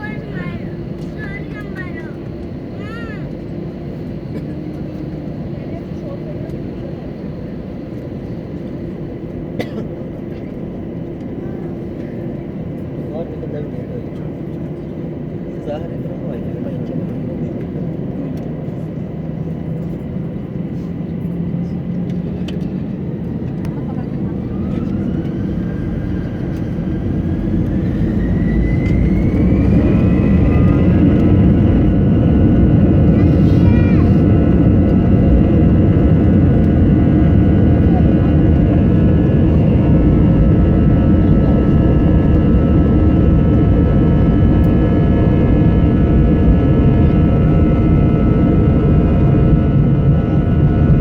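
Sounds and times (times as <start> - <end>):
airliner engines rumbling: 0.0 - 51.0.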